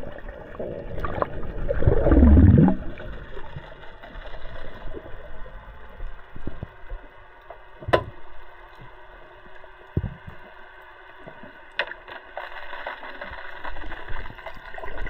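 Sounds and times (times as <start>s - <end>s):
low underwater hiss: 0.0s - 15.0s.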